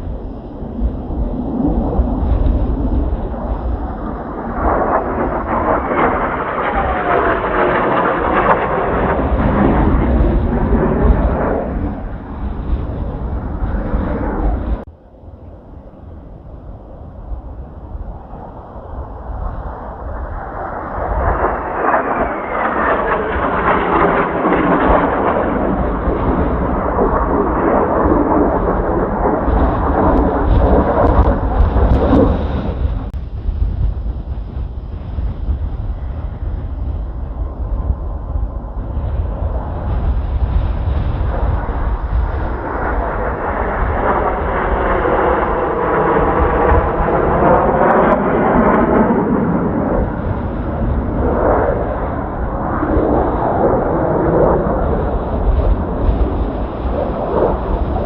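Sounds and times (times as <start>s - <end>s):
jet roar passing overhead: 0.0s - 58.0s
low wind rumble on microphone: 0.0s - 58.0s.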